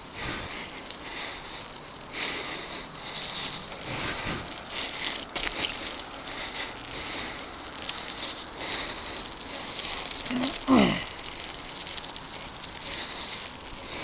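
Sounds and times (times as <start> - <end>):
bike tyre noise and rattle: 0.0 - 14.0.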